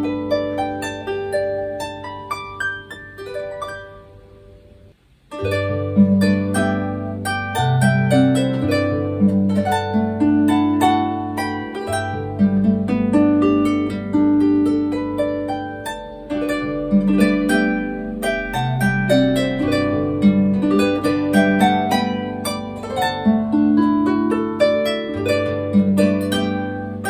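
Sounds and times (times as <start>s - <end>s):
solo harp music: 0.0s - 27.0s.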